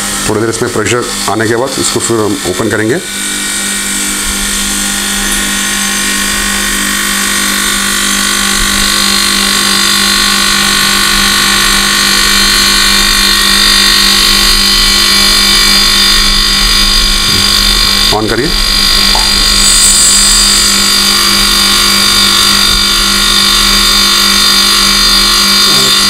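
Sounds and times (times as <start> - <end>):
air compressor running: 0.0 - 26.0.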